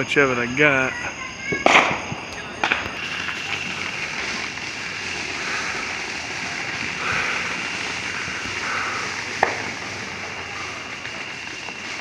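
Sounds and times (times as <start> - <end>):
distant noise swells: 0.0 - 12.0
steady outdoor hiss: 0.0 - 12.0
thin high whine: 0.0 - 12.0
firework bang: 1.0 - 12.0.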